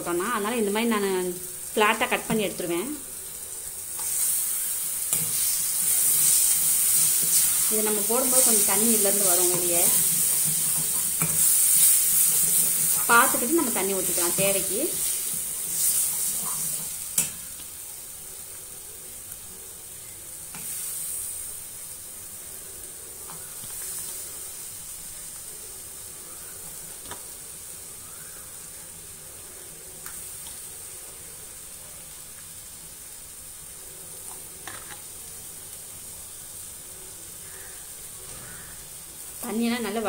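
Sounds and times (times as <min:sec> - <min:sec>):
masala sizzling in a pan: 0:00.0 - 0:40.0.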